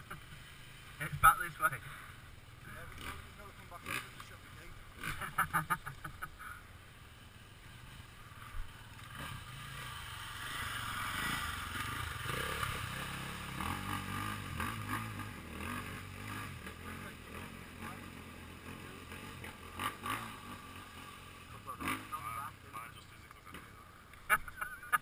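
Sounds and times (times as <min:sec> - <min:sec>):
motorcycle engine: 0:00.0 - 0:25.0.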